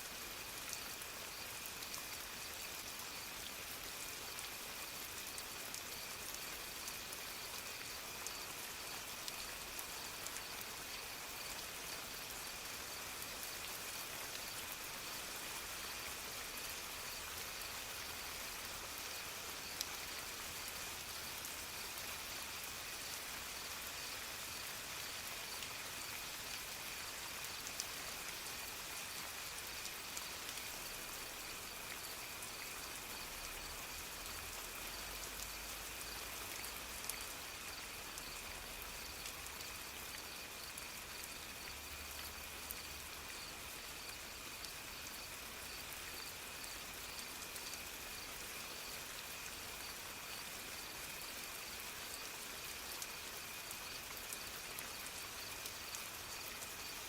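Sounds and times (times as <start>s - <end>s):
soft rain: 0.0s - 57.0s.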